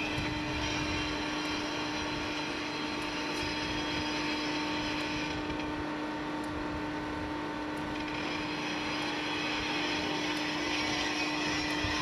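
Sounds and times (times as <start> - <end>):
train engine hum: 0.0 - 12.0.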